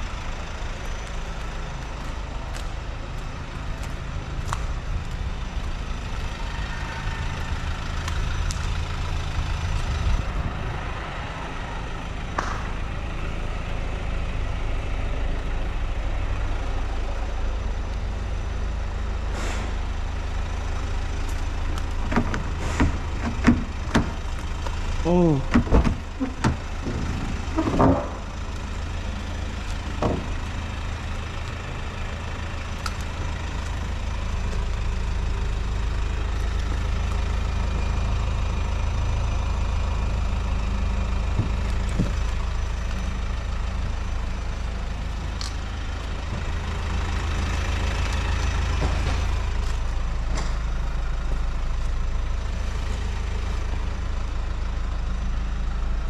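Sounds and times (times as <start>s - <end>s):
low mechanical rumble: 0.0s - 56.0s.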